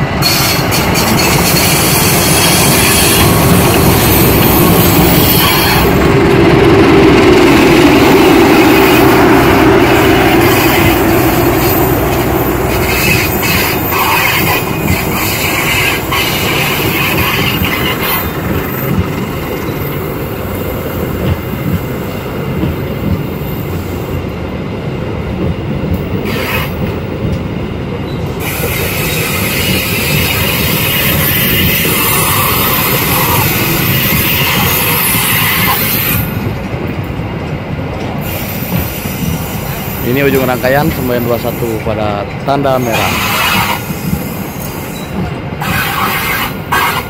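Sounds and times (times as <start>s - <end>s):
wheels clacking over rail joints: 0.0s - 24.0s, 25.1s - 47.0s
diesel locomotive engine: 0.0s - 47.0s
train coaches rumbling: 0.0s - 47.0s.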